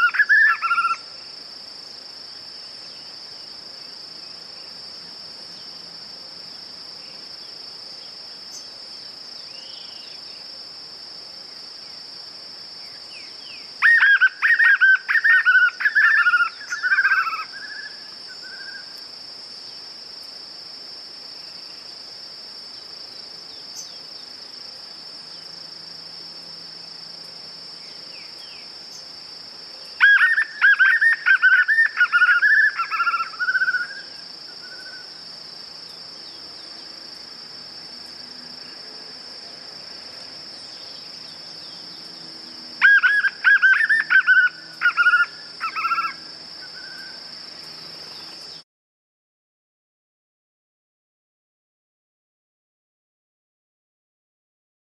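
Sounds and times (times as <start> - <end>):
high insect drone: 0.0 - 48.6.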